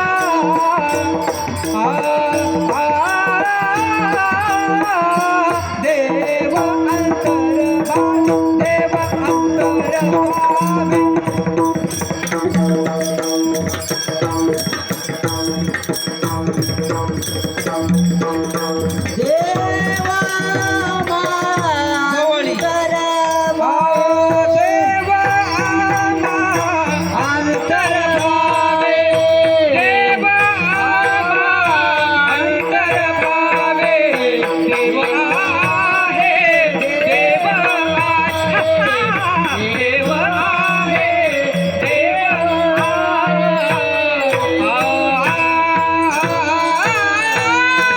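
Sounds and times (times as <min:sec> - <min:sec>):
hand percussion: 0:00.0 - 0:47.9.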